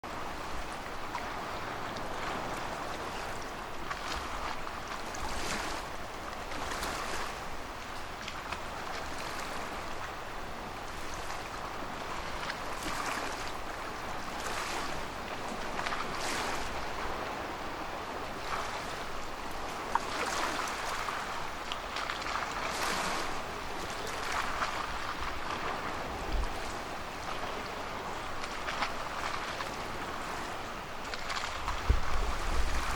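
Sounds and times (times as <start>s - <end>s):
small waves washing on shore: 0.0s - 32.9s.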